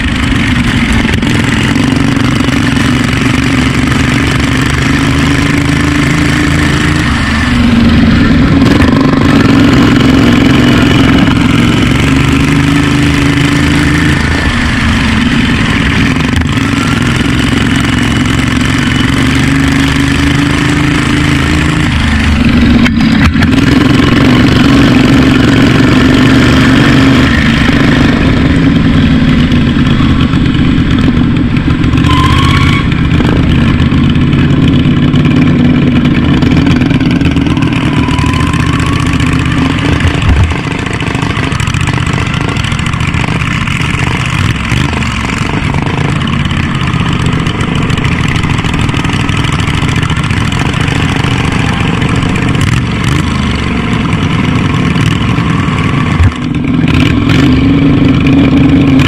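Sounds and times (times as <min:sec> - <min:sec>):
racing mower engines running hard: 0:00.0 - 0:59.0.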